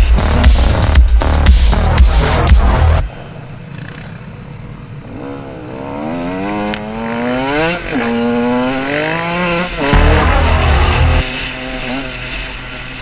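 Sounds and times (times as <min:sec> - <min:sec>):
dirt bike engine accelerating: 0:02.2 - 0:13.0.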